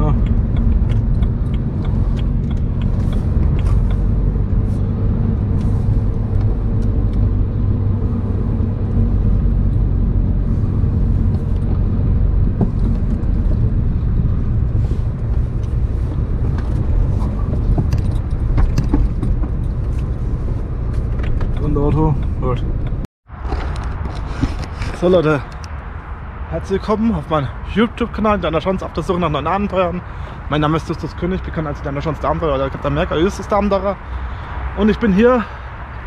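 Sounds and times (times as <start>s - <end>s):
car engine and road rumble: 0.0s - 36.0s.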